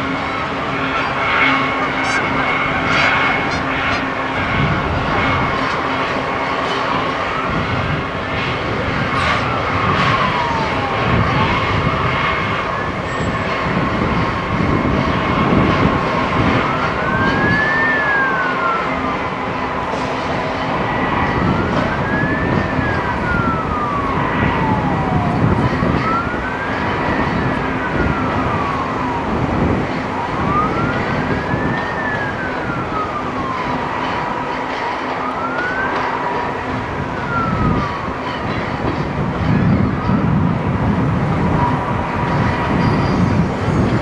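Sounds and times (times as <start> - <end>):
emergency vehicle siren wailing: 0.0 - 44.0
freight train rumbling: 0.0 - 44.0.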